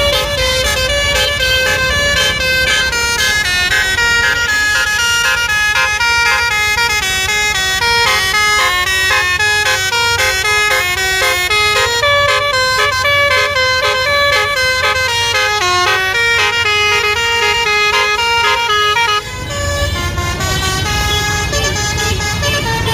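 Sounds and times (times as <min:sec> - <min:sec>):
musical bus horn melody: 0:00.0 - 0:22.9.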